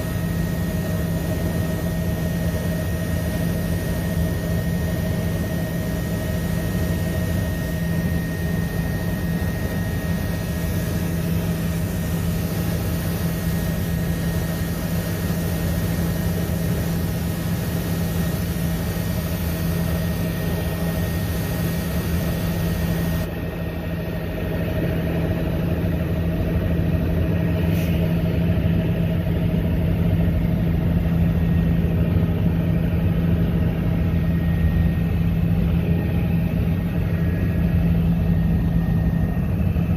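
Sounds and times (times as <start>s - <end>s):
helicopter engine and rotor droning: 0.0s - 39.9s.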